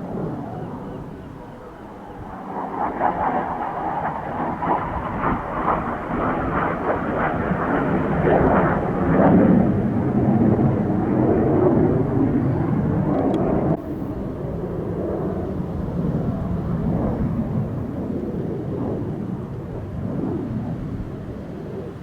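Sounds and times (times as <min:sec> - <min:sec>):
crackling jet engine roar: 0:00.0 - 0:22.0.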